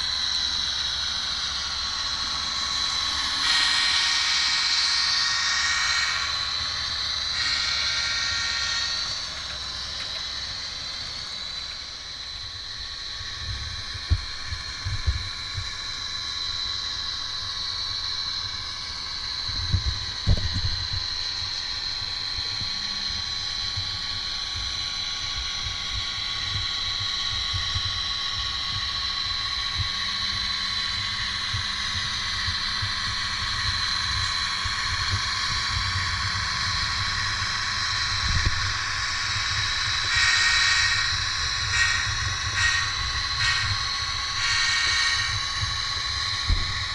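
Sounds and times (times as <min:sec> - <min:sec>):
model diesel engine drone: 0:00.0 - 0:46.9.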